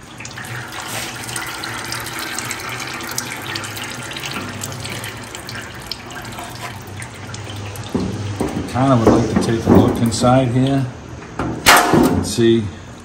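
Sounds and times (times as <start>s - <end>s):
fluid pouring and splashing: 0.0s - 10.9s.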